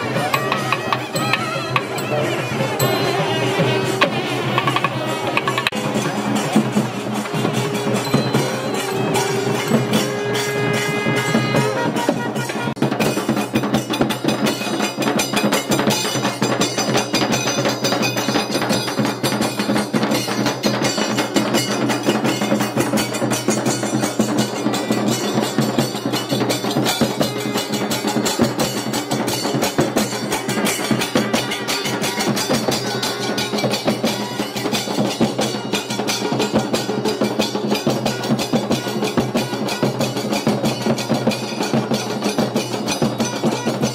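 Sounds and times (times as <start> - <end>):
percussion band playing drums: 0.0 - 43.9.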